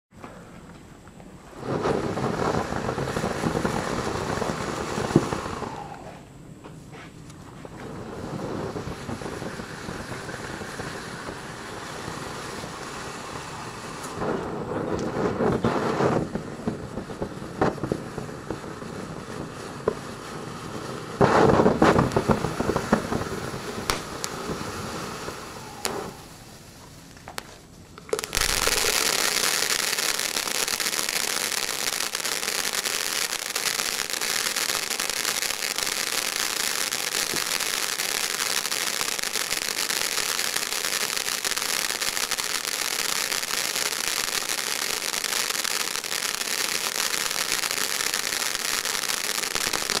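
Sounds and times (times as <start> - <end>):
dense firework crackle: 0.2 - 50.0
firework pops: 0.2 - 50.0
fountain firework hissing: 1.4 - 6.4, 7.4 - 50.0.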